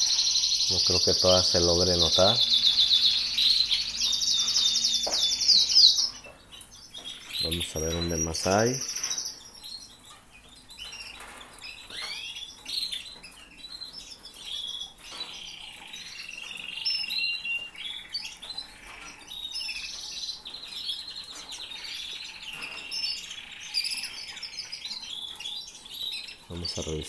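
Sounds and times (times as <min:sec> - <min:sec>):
canaries chirping and trilling: 0:00.0 - 0:27.0.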